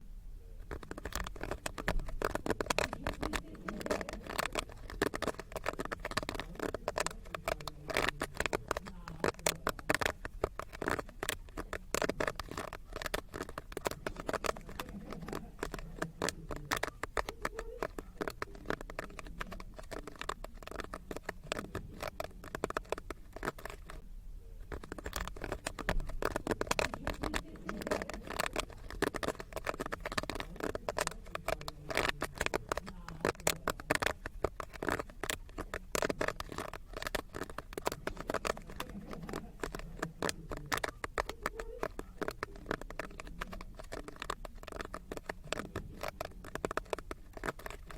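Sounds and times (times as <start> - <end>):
popcorn popping: 0.6 - 24.0, 24.6 - 47.9.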